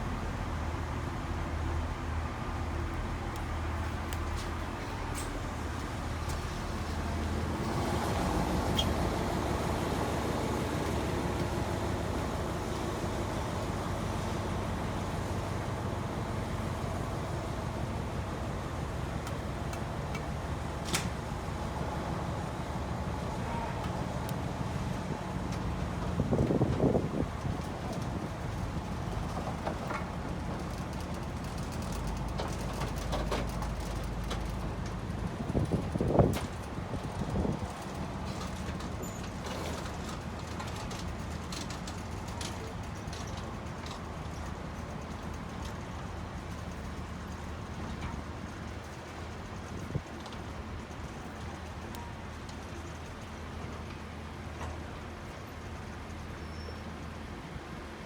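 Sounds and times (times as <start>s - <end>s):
train diesel engine rumbling: 0.0s - 58.0s.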